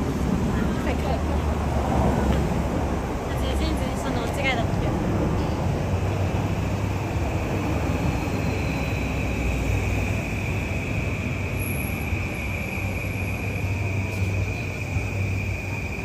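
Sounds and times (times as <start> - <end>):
insect drone: 0.0 - 16.0
traffic rumble: 0.0 - 16.0.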